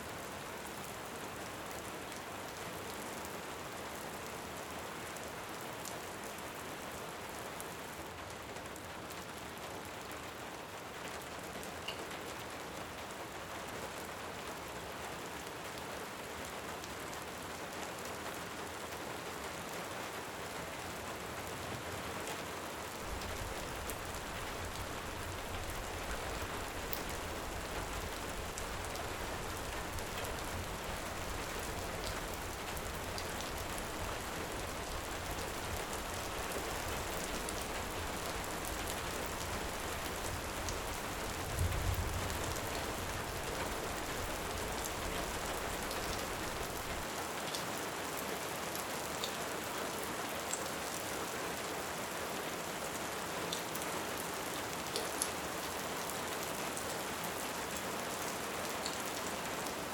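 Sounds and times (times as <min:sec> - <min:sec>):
rain falling: 0:00.1 - 0:59.9.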